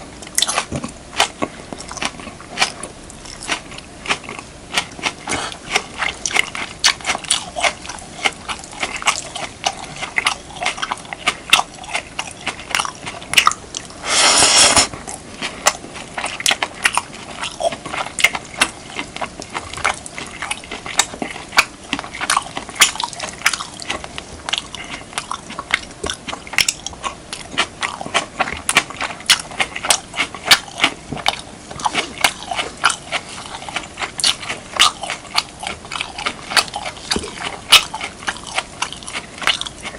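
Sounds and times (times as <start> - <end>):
wet chewing and mouth clicks: 0.2 - 39.9.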